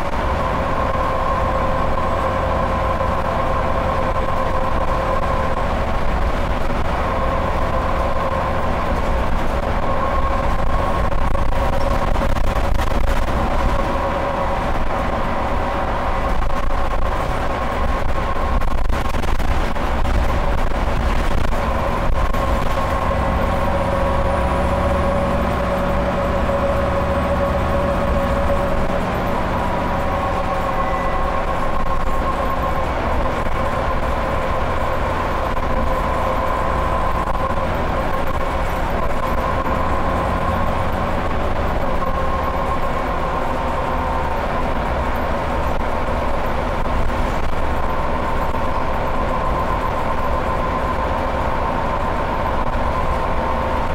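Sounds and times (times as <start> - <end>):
bus engine whine: 0.0 - 53.9
road and tyre rumble: 0.0 - 53.9.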